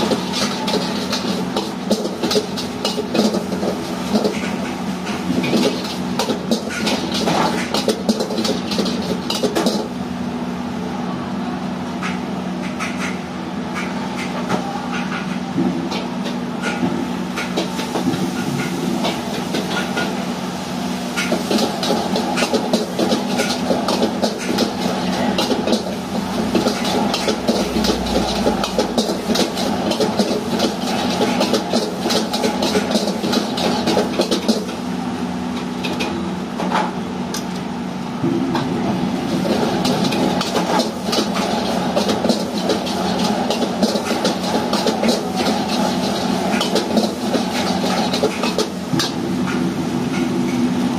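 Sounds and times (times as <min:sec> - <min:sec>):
gas burner and fan hissing: 0:00.0 - 0:50.9.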